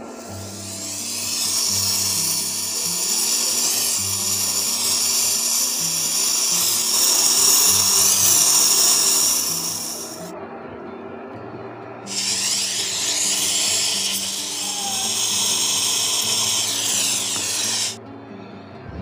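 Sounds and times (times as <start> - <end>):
torch flame hissing: 0.0 - 10.3, 12.1 - 18.0
background music: 0.0 - 19.0.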